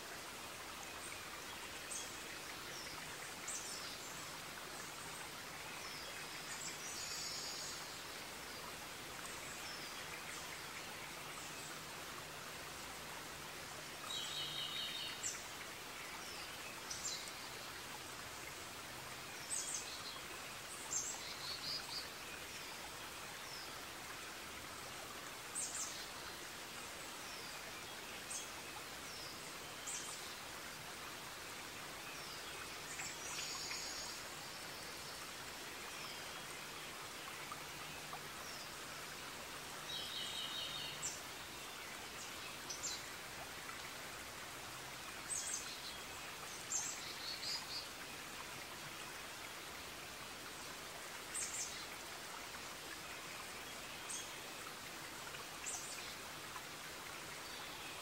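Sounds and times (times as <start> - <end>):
songbirds chirping: 0.1 - 58.0.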